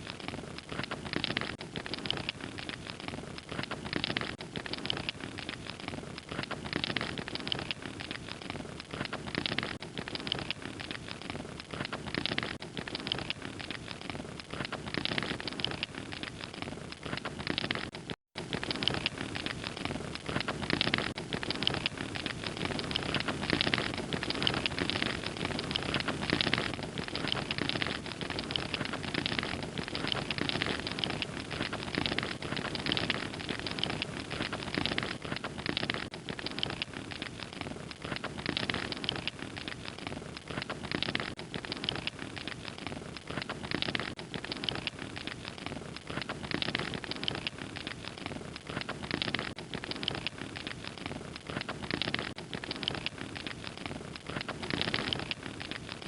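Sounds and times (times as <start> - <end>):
fire crackling with pops and snaps: 0.0 - 56.0.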